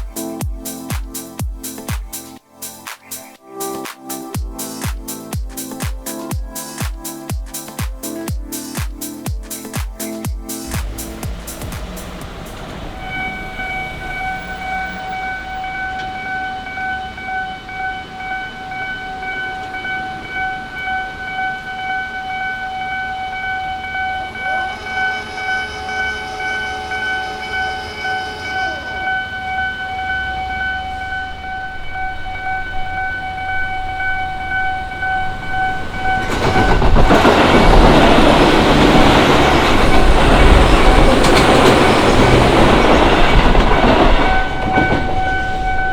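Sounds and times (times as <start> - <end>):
level crossing alarm pulses: 0.0 - 2.3, 3.7 - 45.9
train rumbling over crossing: 4.3 - 45.9.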